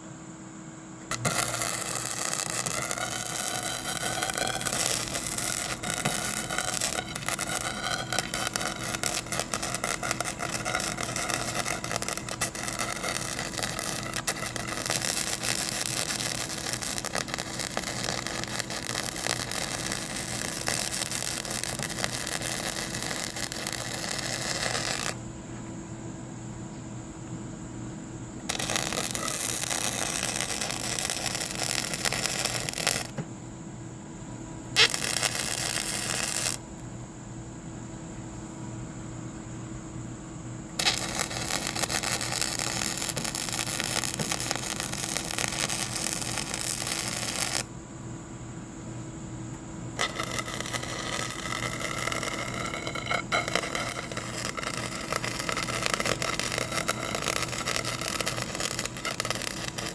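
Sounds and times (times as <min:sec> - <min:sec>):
machine whine: 0:00.6 - 0:25.6, 0:28.3 - 0:33.2, 0:34.6 - 0:36.9, 0:39.4 - 0:47.7, 0:49.5 - 0:59.9.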